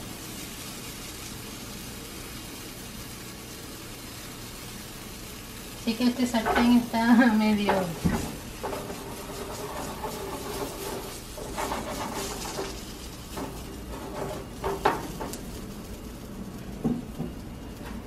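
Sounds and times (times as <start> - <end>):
batter sizzling in frying pan: 0.0 - 18.0.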